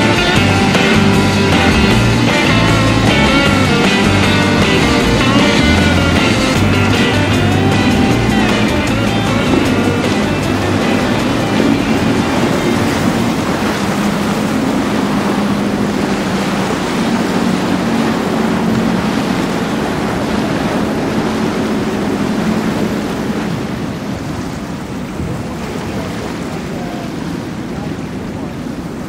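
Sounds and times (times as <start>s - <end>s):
boat engines droning: 0.0s - 29.0s
rushing water and waves: 0.0s - 29.0s
wind on microphone: 0.0s - 29.0s.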